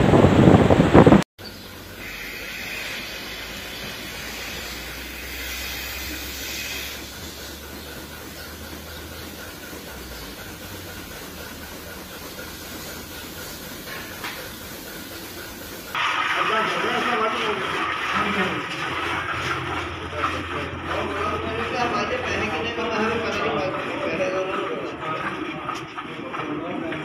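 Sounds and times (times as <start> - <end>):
barn machinery hiss and hum: 1.4 - 27.0.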